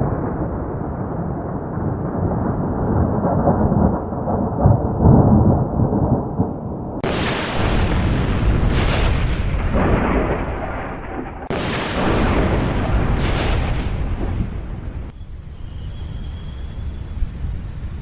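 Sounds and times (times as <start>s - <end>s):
crackling thunderclap: 0.0s - 18.0s
thunder rumbling: 0.0s - 18.0s.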